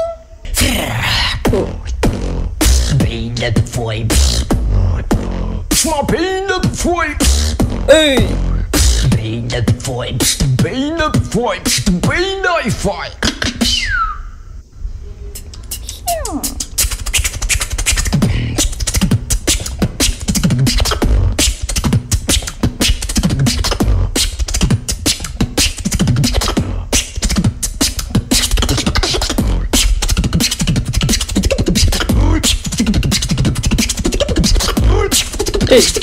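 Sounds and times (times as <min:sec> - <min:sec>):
person beatboxing into a microphone: 0:00.0 - 0:14.0, 0:15.4 - 0:36.0.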